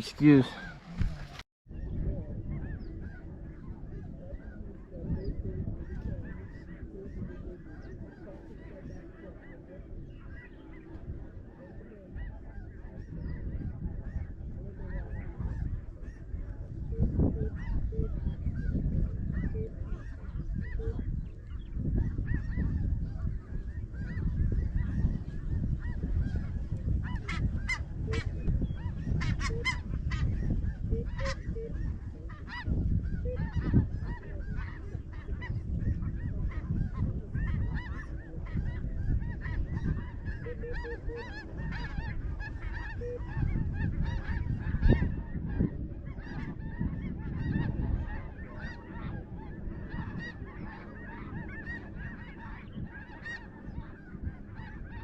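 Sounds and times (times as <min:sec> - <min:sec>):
geese honking: 0:00.0 - 0:01.4, 0:02.5 - 0:55.0.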